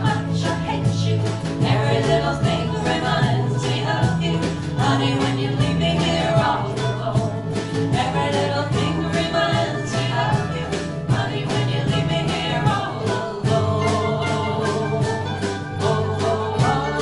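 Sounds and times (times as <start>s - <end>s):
live band playing strummed song: 0.0s - 17.0s
person singing: 0.0s - 17.0s.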